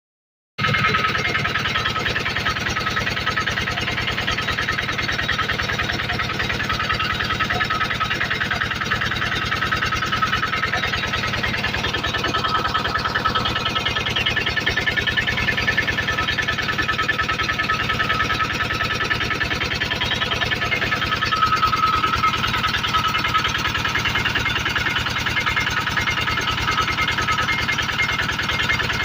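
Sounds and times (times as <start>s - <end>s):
generator engine running: 0.6s - 29.0s.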